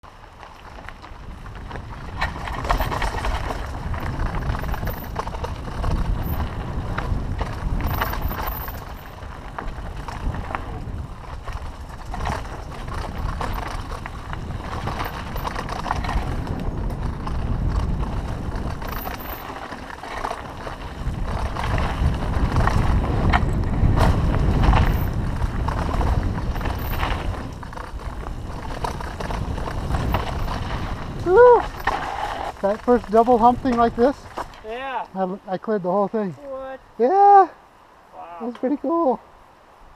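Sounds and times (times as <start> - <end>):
tyres rolling over dirt: 0.0 - 34.9
bike rattles and knocks: 0.1 - 34.9
wind buffeting microphone: 0.3 - 35.0.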